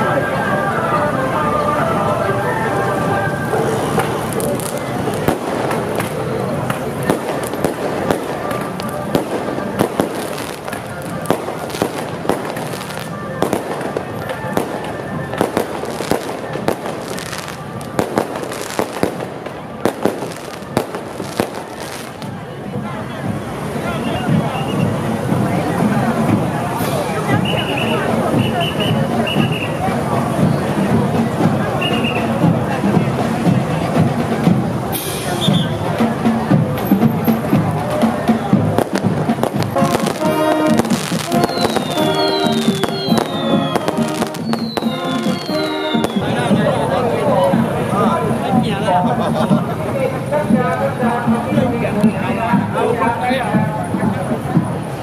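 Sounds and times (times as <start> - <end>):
brass band playing chords: 0.0 - 54.6
firecrackers banging: 3.0 - 55.0.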